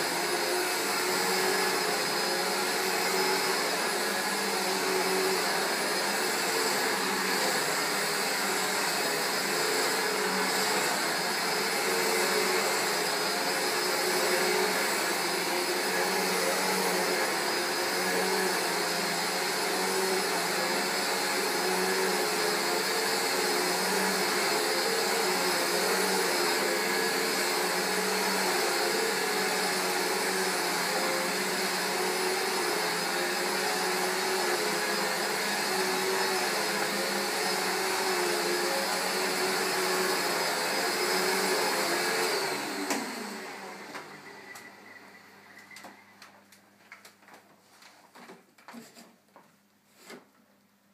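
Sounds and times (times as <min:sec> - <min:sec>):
vacuum cleaner motor running: 0:00.0 - 0:46.0.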